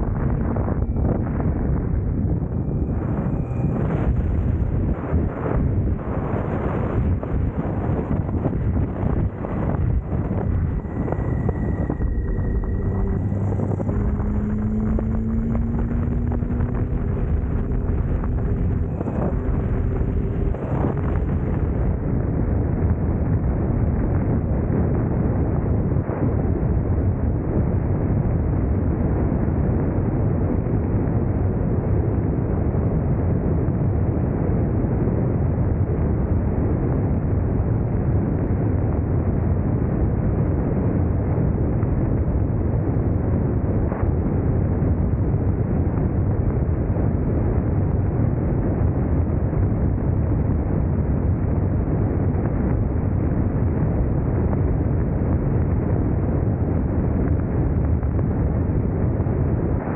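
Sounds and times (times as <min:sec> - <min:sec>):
motorcycle road noise: 0:00.0 - 0:59.9
wind rush: 0:00.0 - 0:59.9.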